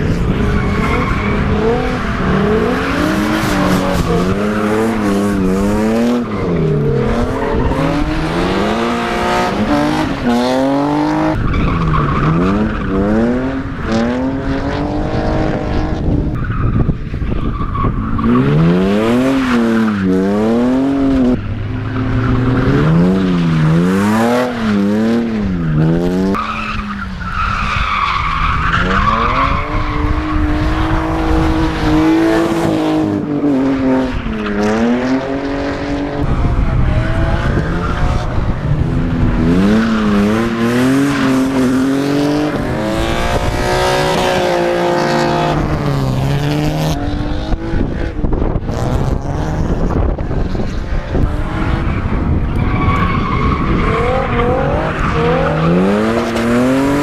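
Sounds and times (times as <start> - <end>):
car engine revving: 0.0 - 16.8, 17.5 - 57.0.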